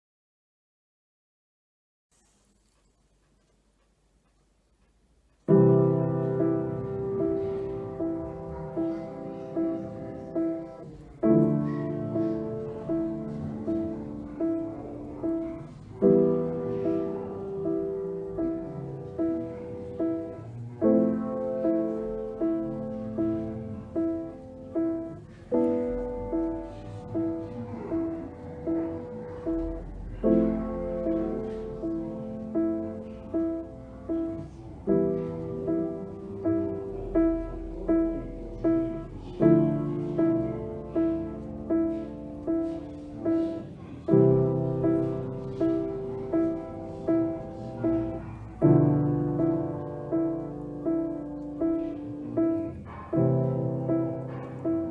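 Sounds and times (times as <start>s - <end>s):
gentle solo piano music: 5.4s - 54.9s.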